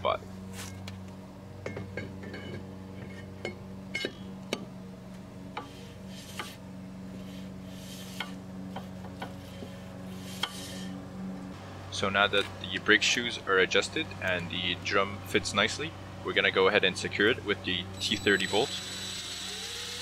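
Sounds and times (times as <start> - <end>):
low hum: 0.0 - 19.9.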